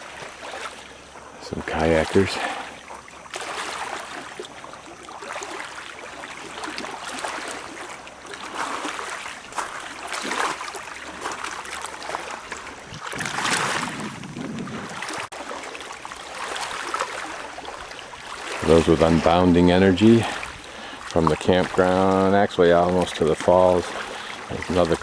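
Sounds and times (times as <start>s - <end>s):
small waves lapping on shore: 0.0s - 25.0s.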